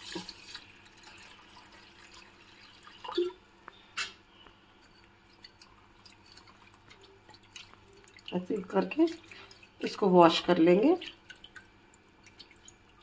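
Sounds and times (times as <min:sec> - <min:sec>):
water pouring into a bowl: 0:00.0 - 0:03.5, 0:05.2 - 0:13.0
water dripping: 0:00.0 - 0:13.0.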